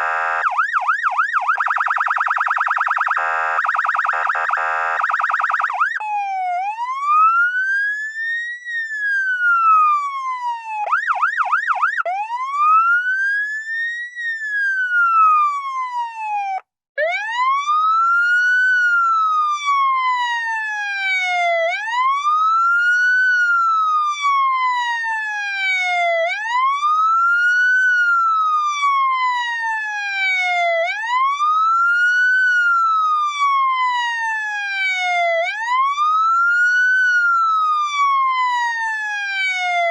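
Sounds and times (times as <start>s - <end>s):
police siren wailing: 0.0s - 39.9s
police siren yelps: 0.0s - 39.9s.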